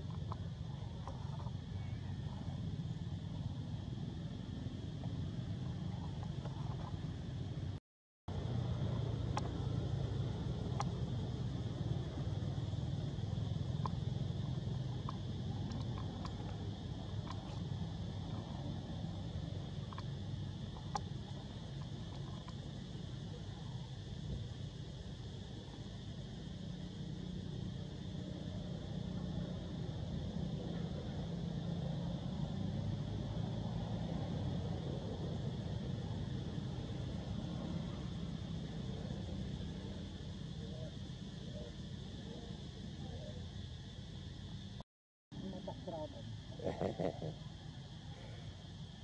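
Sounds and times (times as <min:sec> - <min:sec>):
outdoor low rumble: 0:00.0 - 0:49.0.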